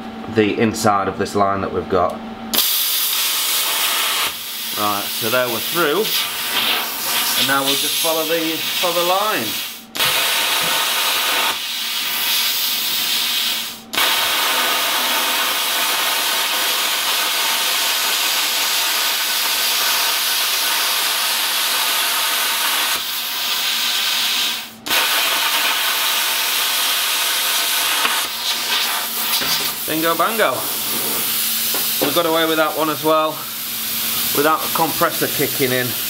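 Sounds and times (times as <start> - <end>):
plasma cutter hissing: 2.6 - 36.0.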